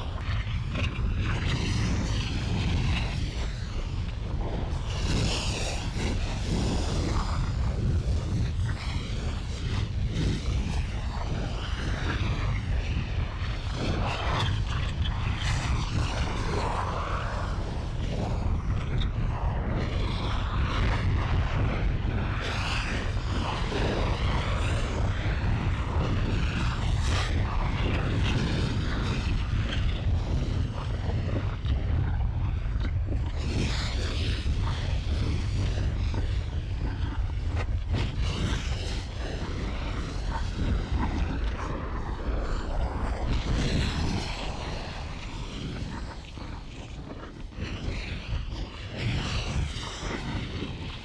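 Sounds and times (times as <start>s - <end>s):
crackling and hissing: 0.0s - 51.0s
deep rumble: 0.0s - 51.0s.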